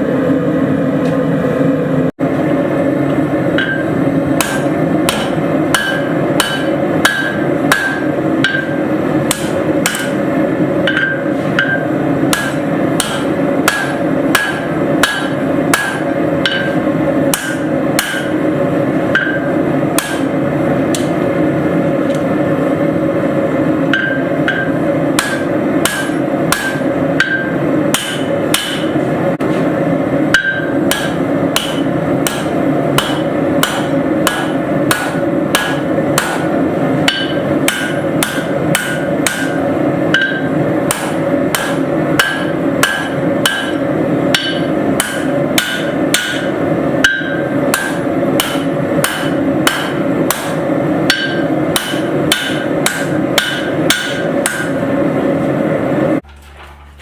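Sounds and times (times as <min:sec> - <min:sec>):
steady hum: 0:00.0 - 0:57.0
hammer striking steel on anvil: 0:03.5 - 0:21.2, 0:23.9 - 0:29.5, 0:30.3 - 0:54.9.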